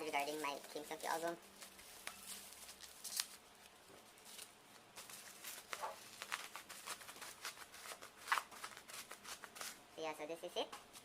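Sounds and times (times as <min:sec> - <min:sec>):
bubble wrap rustling and crinkling: 0:00.0 - 0:09.8.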